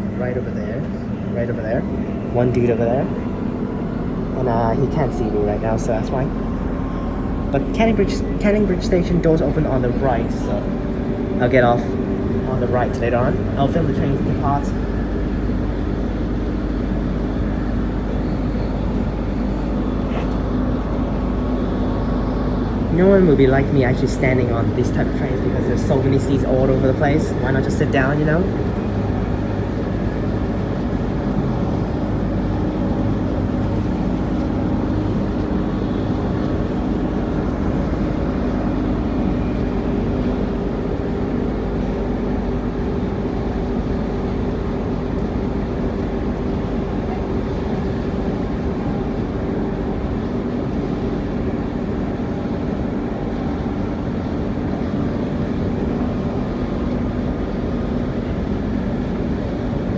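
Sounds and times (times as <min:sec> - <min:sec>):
steady motor hum: 0:00.0 - 0:59.9
train wheels rumbling on track: 0:00.0 - 0:59.9.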